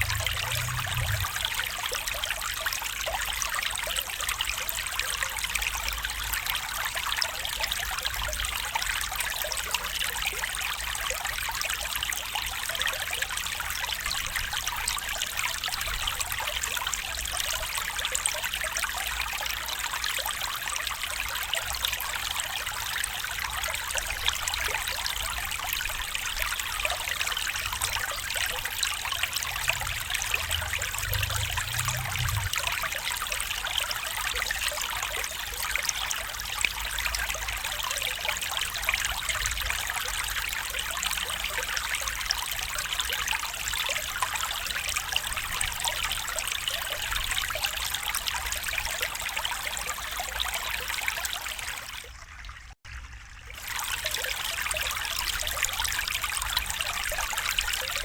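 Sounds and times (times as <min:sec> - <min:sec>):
stream trickling and bubbling: 0:00.0 - 0:58.0.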